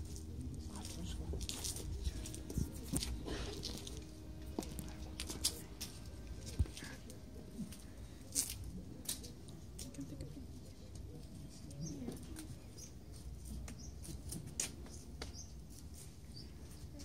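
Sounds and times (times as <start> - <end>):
murmur of people greeting: 0.0 - 14.0.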